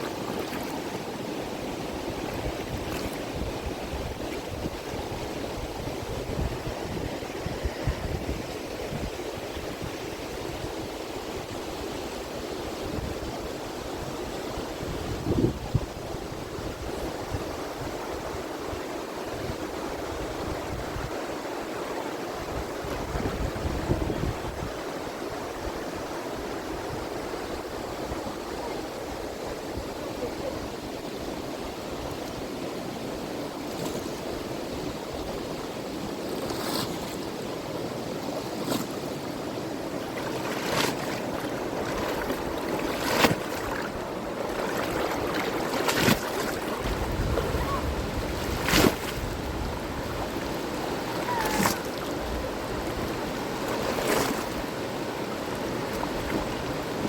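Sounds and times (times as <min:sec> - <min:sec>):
river rushing: 0:00.0 - 0:15.2, 0:15.9 - 0:57.0
wind on microphone: 0:01.8 - 0:32.6, 0:40.2 - 0:57.0.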